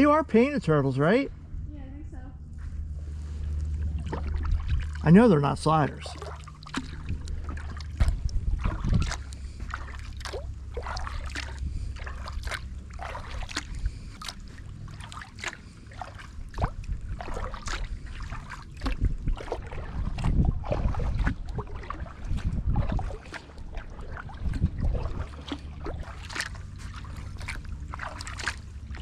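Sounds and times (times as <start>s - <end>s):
low rumble: 0.0s - 29.0s
kayak paddle splashing: 3.0s - 29.0s.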